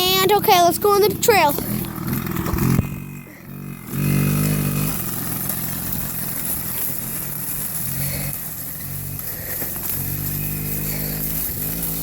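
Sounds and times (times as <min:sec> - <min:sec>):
dirt bike two-stroke engine: 0:00.0 - 0:12.0.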